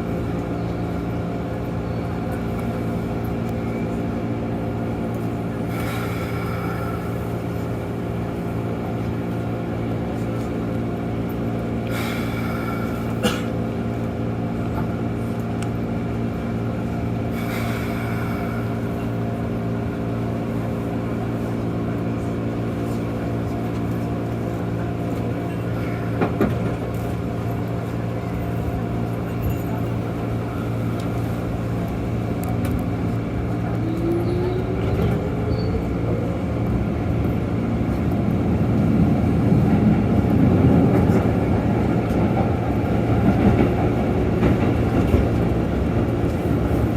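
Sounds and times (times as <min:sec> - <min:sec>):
electric train hum: 0:00.0 - 0:46.9.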